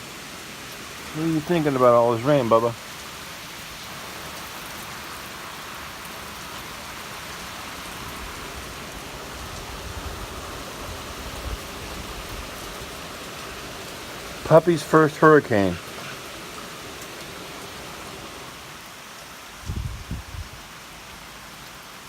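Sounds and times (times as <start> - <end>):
steady rain hissing: 0.0 - 22.0.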